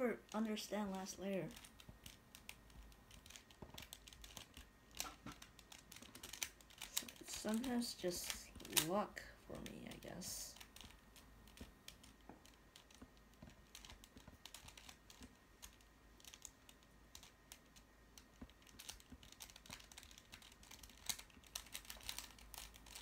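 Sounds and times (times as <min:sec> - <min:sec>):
puzzle cube layers clicking: 0:00.2 - 0:23.0.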